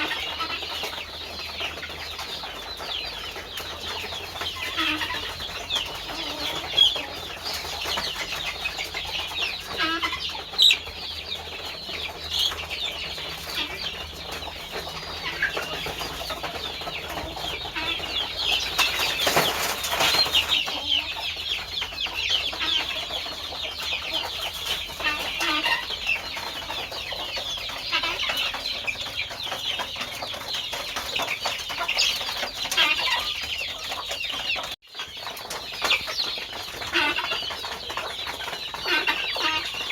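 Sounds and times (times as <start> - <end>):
chicken clucking: 0.0 - 39.9
chicks cheeping: 0.0 - 39.9.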